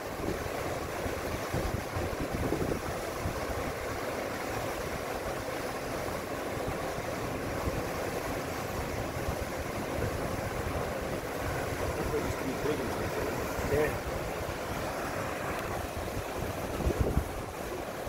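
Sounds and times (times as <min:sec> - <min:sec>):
water churning and rushing: 0:00.0 - 0:18.0.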